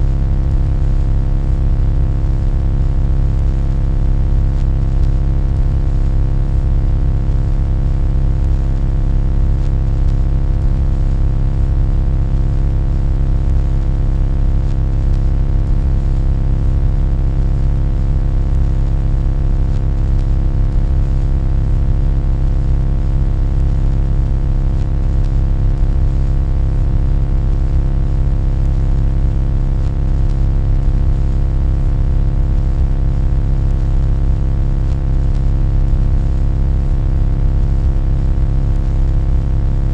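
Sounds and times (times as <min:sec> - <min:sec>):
loud low-pitched hum: 0:00.0 - 0:33.0.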